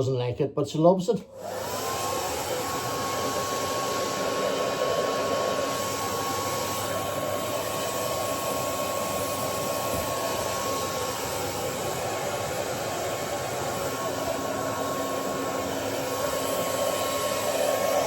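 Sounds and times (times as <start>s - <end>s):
hair dryer running: 1.3s - 18.0s.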